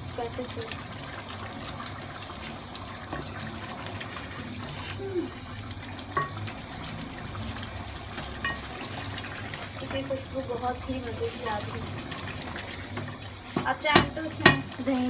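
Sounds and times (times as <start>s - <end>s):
gravy bubbling and sizzling in a pot: 0.0s - 15.0s.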